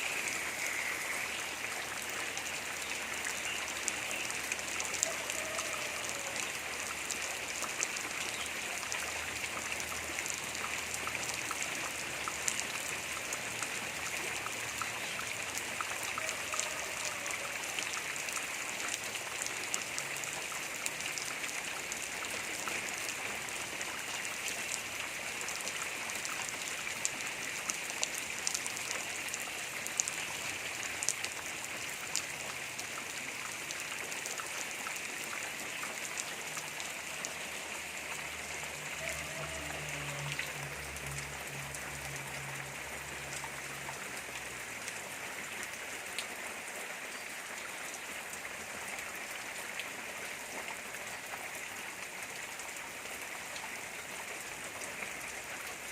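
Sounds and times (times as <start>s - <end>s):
raindrops ticking on surfaces: 0.0s - 55.9s
steady rain falling: 0.0s - 55.9s.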